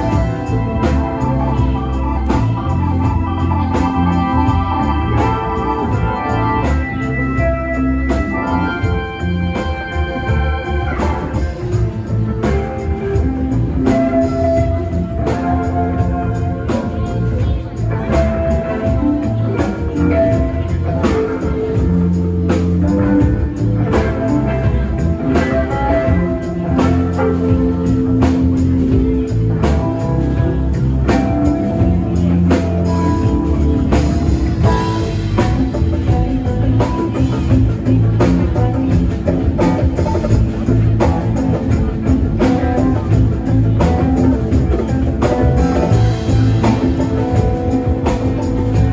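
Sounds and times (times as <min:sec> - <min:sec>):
live band playing chords: 0:00.0 - 0:48.9
steady drum beat: 0:00.0 - 0:48.9.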